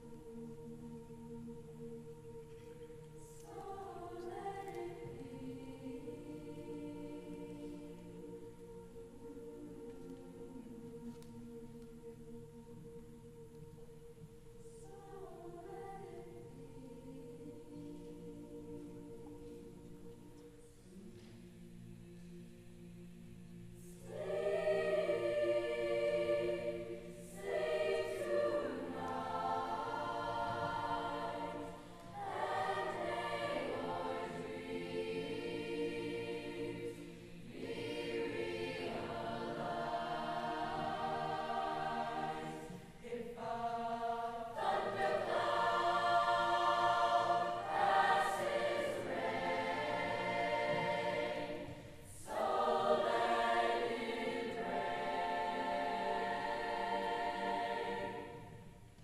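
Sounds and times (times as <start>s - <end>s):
girls' choir singing: 0.0s - 59.0s.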